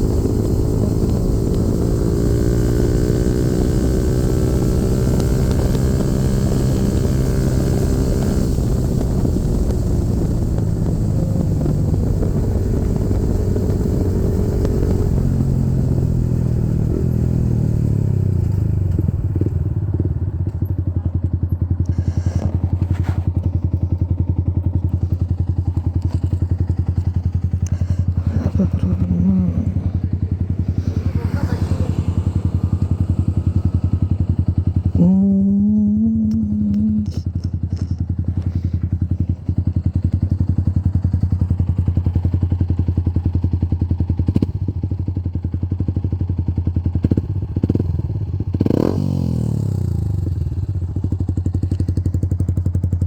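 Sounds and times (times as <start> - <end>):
motorcycle engine idling: 0.0 - 53.0.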